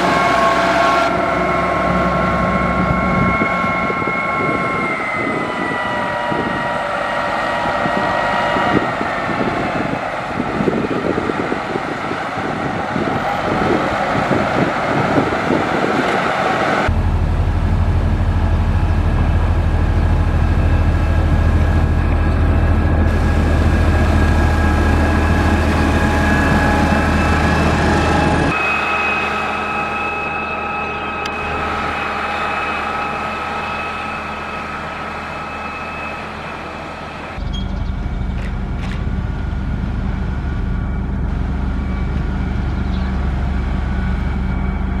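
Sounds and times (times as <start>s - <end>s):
high whine: 0.0s - 45.0s
motor grader diesel engine: 0.0s - 45.0s.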